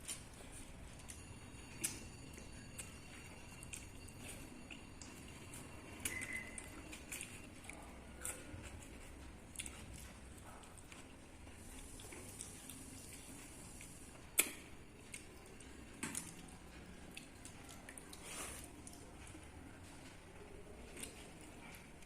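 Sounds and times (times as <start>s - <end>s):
wet squishing eating sounds: 0.0s - 22.0s.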